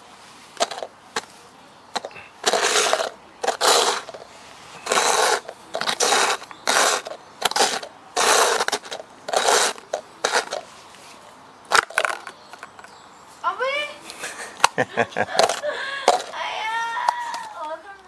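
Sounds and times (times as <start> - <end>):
plastic cups scraping on concrete: 0.5 - 13.0, 15.3 - 17.8.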